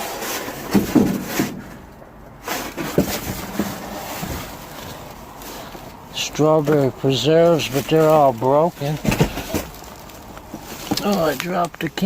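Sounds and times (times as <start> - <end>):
rustling of bags and packaging: 0.0 - 12.0
knocks of items moved: 0.1 - 12.0.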